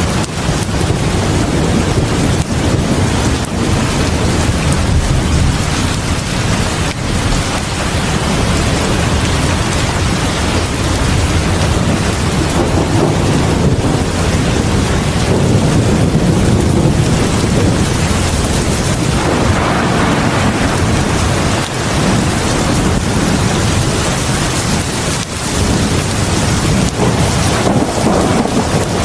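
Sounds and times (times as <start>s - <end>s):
deep low rumble: 0.0s - 29.0s
heavy rain pouring: 0.0s - 29.0s.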